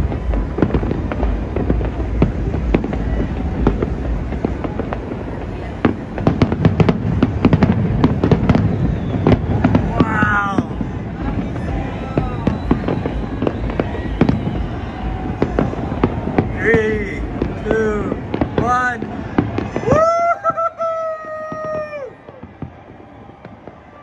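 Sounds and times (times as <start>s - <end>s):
fireworks popping and banging: 0.0s - 24.0s.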